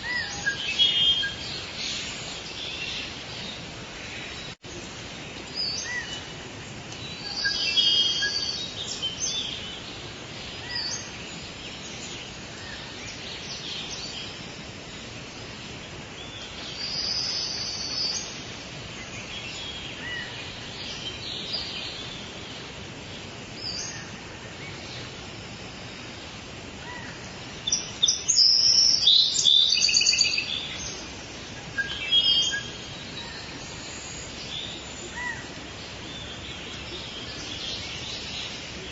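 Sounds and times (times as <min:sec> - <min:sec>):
birds chirping and calling: 0:00.0 - 0:38.9
steady background hiss: 0:00.0 - 0:38.9.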